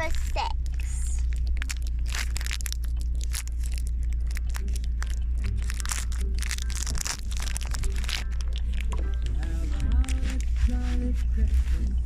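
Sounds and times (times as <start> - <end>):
crackling and rustling at microphone: 0.0 - 12.0
low rumble of car cabin: 0.0 - 12.0.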